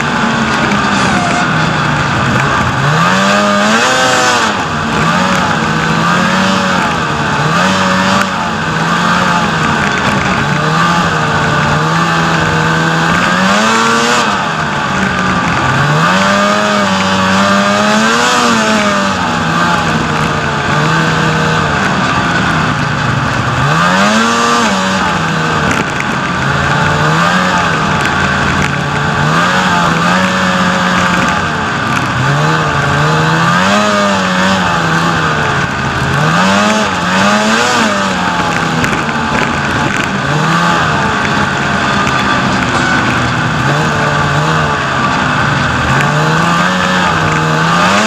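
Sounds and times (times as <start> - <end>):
snowmobile engine revving: 0.0 - 48.0.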